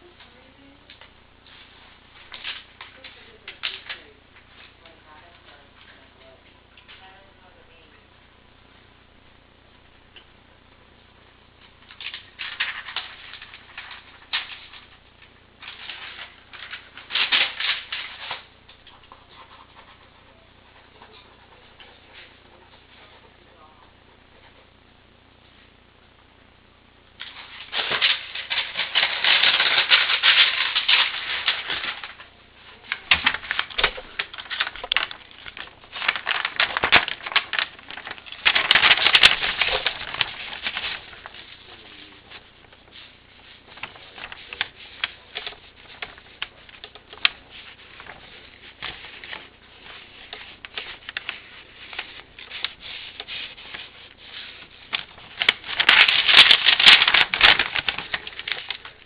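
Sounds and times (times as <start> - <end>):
crackling rustling handling noise: 0.0 - 7.2, 11.3 - 26.2, 27.1 - 59.0.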